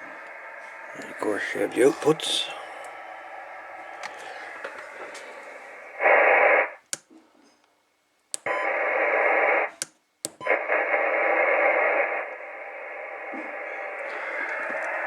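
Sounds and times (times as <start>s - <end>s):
radio static hiss: 0.0s - 6.9s, 8.6s - 9.8s, 10.5s - 15.0s.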